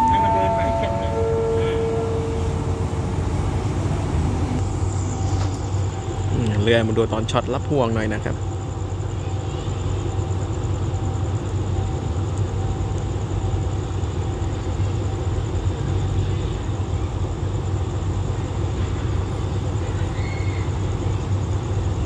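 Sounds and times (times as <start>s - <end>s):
diesel train engine rumble: 0.0s - 22.0s.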